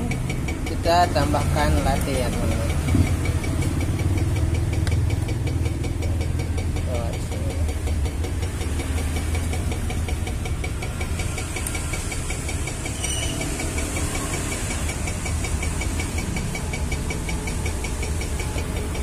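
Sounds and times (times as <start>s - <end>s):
espresso machine pump buzzing: 0.0s - 19.0s.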